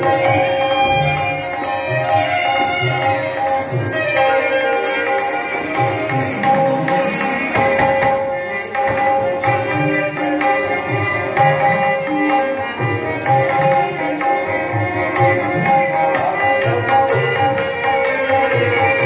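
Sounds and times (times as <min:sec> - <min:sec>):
hand drum rhythm: 0:00.0 - 0:19.0
harmonium melody: 0:00.0 - 0:19.0.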